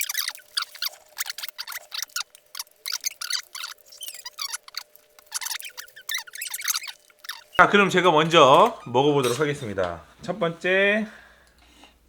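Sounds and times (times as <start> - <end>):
plastic containers crinkling: 0.0 - 10.0.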